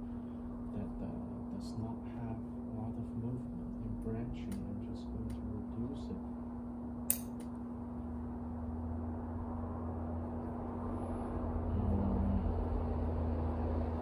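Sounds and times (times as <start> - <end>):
low background rumble with hum: 0.0 - 14.0.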